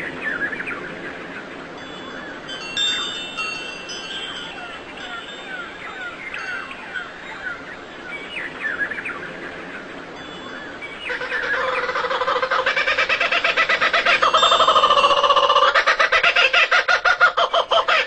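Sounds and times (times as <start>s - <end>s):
birds chirping: 0.0s - 18.0s
harsh pulsing bird call: 2.2s - 9.1s, 10.5s - 18.0s.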